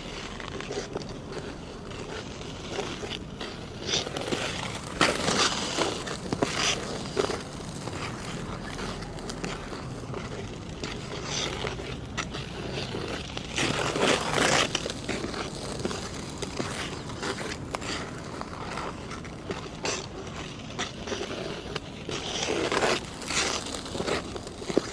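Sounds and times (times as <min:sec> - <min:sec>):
ice skate blades scraping ice: 0:00.0 - 0:24.9.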